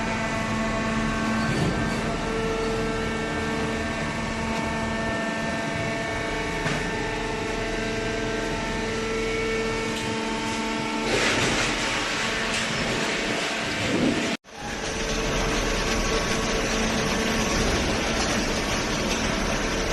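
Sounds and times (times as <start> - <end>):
baler machine hum: 0.0 - 19.9.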